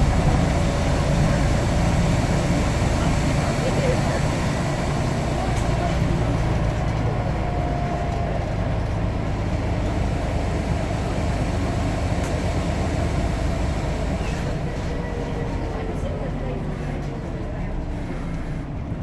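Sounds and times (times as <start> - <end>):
bus engine low rumble: 0.0 - 19.0.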